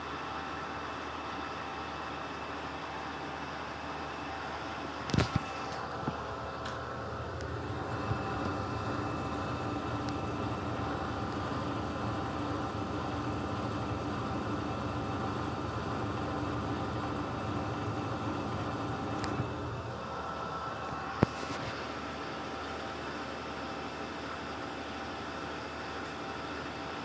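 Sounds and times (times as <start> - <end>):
washing machine motor hum: 0.1 - 27.0.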